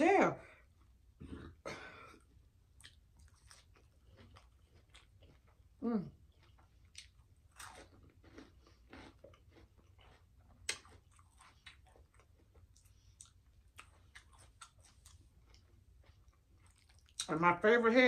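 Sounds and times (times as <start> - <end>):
person chewing food: 0.6 - 17.3.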